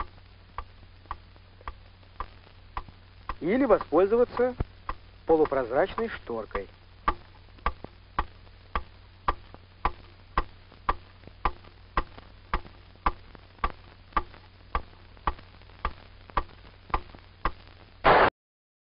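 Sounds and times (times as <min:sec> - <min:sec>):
sharp ticks: 0:00.0 - 0:17.7
low steady hum: 0:00.0 - 0:18.3.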